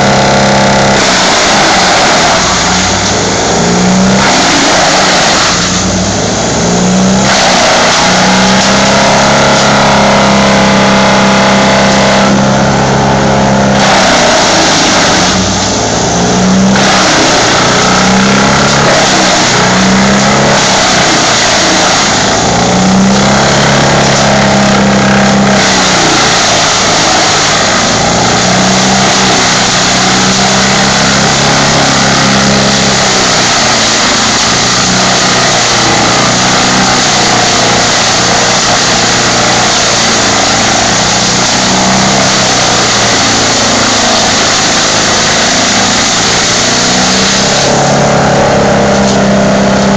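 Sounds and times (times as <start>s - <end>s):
branches grinding in chipper: 0.0s - 49.9s
wood chipper engine: 0.0s - 49.9s.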